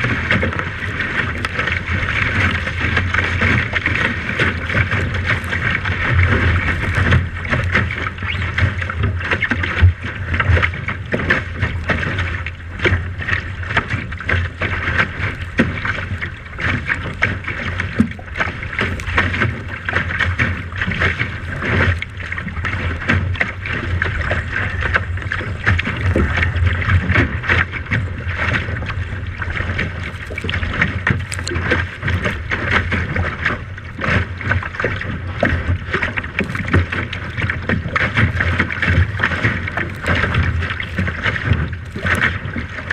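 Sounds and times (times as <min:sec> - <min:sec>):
boat under way: 0:00.0 - 0:42.9
water rushing: 0:00.0 - 0:42.9
wind buffeting microphone: 0:00.0 - 0:42.9.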